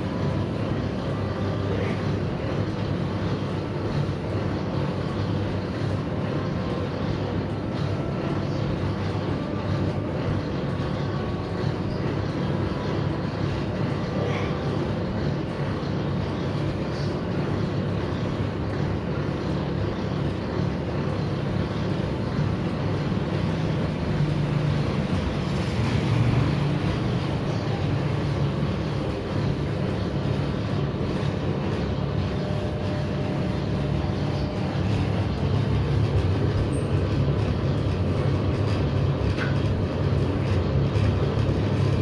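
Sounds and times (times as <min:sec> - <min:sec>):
noodle machine humming: 0:00.0 - 0:42.0.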